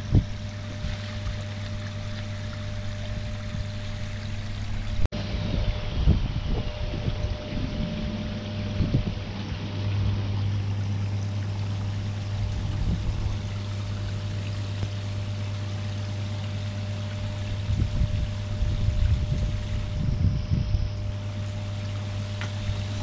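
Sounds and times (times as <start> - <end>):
water cascading into pond: 0.0 - 5.1, 7.6 - 20.1, 21.1 - 23.0
low rumbles: 0.0 - 23.0
steady low hum: 0.0 - 23.0.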